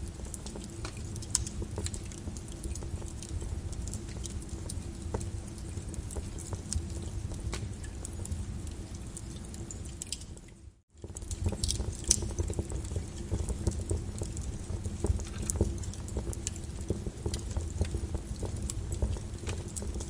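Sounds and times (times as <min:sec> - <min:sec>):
lava crackling and popping: 0:00.0 - 0:20.0.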